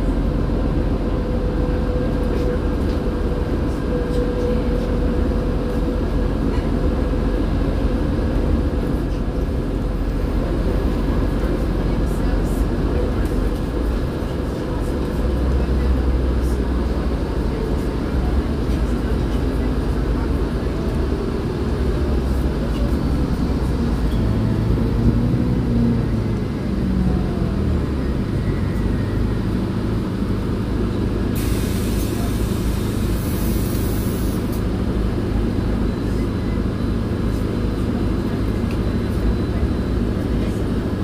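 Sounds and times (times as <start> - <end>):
bus engine running: 0.0 - 41.0.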